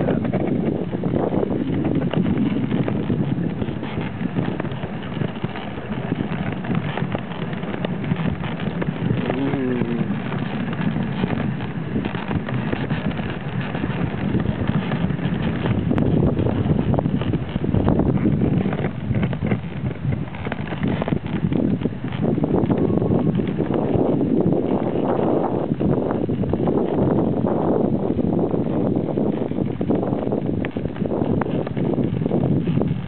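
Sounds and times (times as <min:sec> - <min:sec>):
sled runners scraping on snow: 0:00.0 - 0:33.0
wind buffeting microphone: 0:00.0 - 0:33.0.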